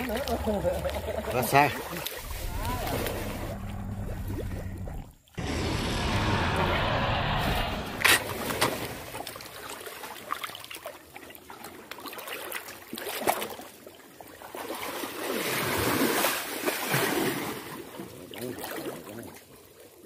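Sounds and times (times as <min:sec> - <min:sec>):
water splashing and trickling: 0:00.0 - 0:05.4, 0:08.1 - 0:20.0.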